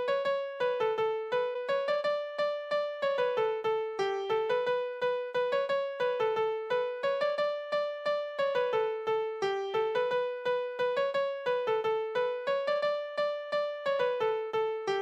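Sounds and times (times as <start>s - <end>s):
bright keyboard melody: 0.0s - 15.0s.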